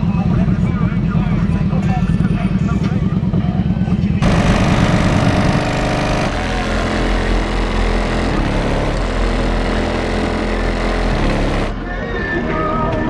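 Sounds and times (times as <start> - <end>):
engine exhaust idling: 0.0 - 11.8.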